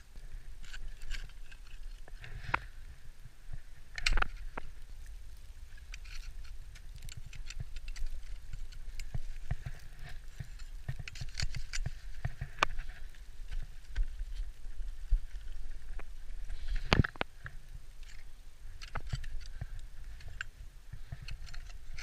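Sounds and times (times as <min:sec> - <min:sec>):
ice axes tapping and scraping rock: 0:04.0 - 0:22.0.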